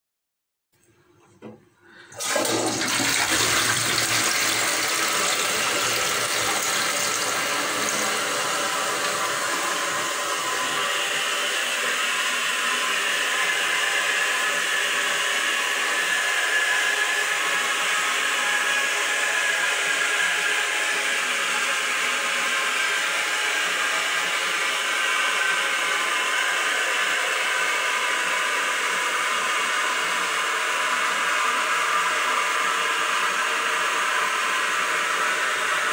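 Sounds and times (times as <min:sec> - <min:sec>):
toilet flushing: 0:01.4 - 0:35.9.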